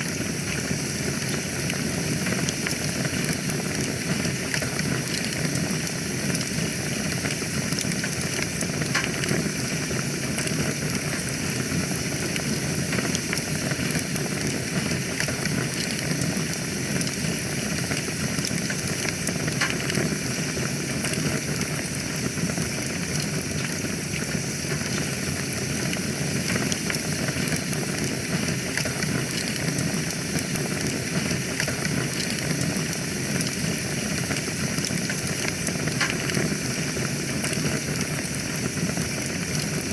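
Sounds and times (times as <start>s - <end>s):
fire crackles and pops: 0.0s - 39.9s
wood fire hissing: 0.0s - 39.9s.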